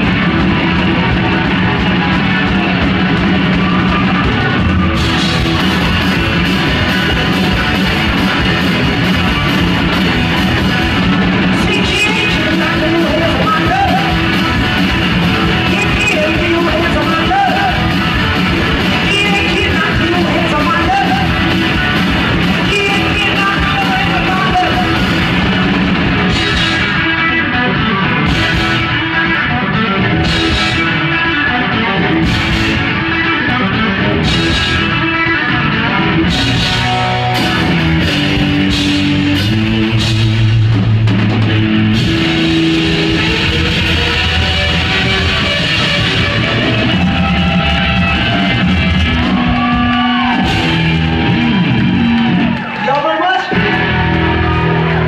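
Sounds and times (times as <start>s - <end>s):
drum kit: 0.0s - 52.8s
distorted electric guitar: 0.0s - 55.0s.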